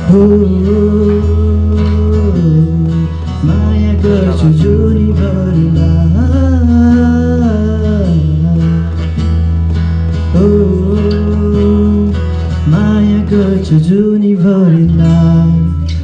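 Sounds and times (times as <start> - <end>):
man singing into microphone: 0.0 - 9.2, 10.2 - 16.0
acoustic guitar strumming: 0.0 - 16.0.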